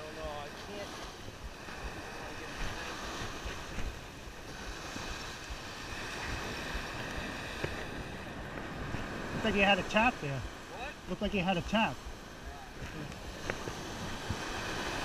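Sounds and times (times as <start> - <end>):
wind rumbling on microphone: 0.0 - 11.3, 12.0 - 15.0
ocean surf washing: 0.0 - 15.0.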